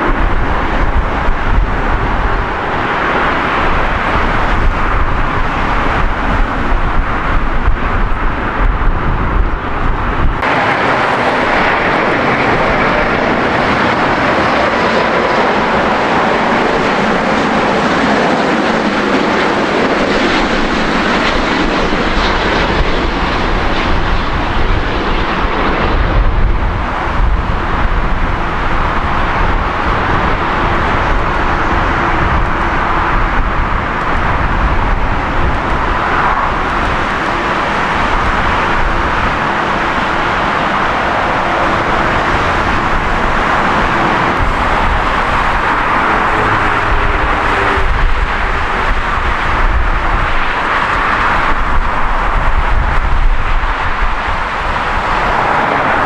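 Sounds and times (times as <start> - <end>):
deep rumble of landing: 0.0 - 55.6
jet engine roar: 0.0 - 56.0.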